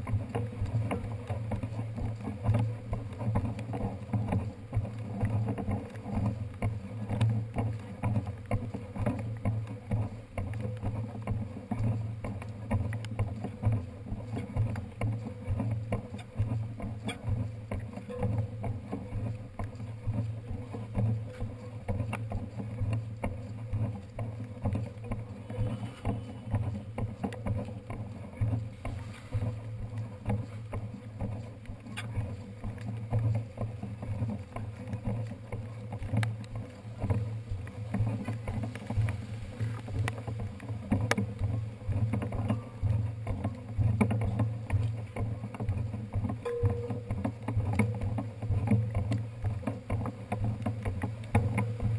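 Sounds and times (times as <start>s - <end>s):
bicycle rumbling and rattling: 0.0s - 51.9s
small clicks and knocks: 0.0s - 51.9s.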